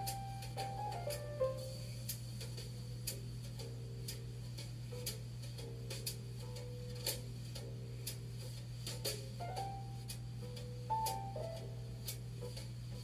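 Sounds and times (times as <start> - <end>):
clock-like tick: 0.0 - 13.0.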